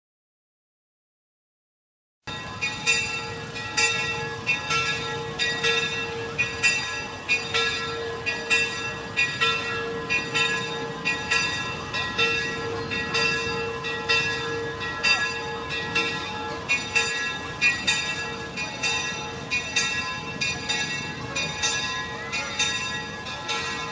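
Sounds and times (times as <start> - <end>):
church bell ringing: 2.3 - 23.9.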